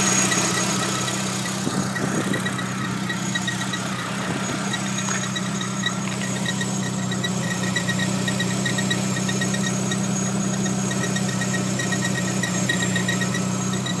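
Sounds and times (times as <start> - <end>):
car engine idling: 0.0 - 14.0
high-pitched chirping squeak: 0.0 - 14.0.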